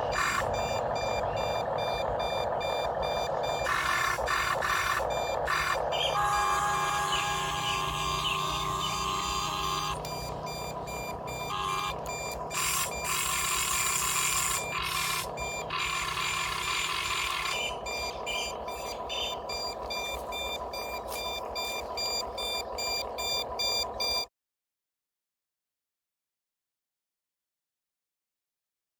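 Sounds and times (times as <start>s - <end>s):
electronic alarm beeping: 0.0s - 24.3s
steady mechanical whir: 0.0s - 24.3s.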